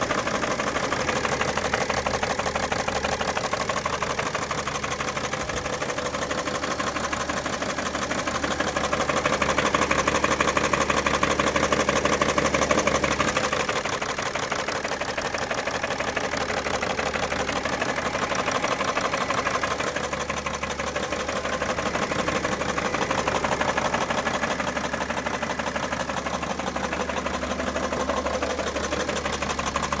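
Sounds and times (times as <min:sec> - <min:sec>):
diesel engine knocking: 0:00.0 - 0:30.0.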